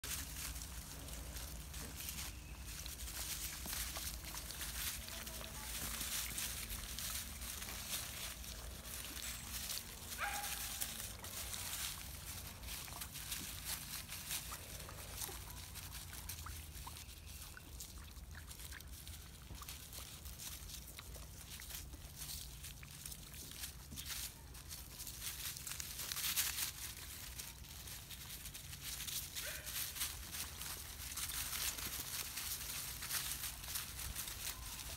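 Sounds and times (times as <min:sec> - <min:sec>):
puppies rustling dry leaves: 0:00.0 - 0:34.9.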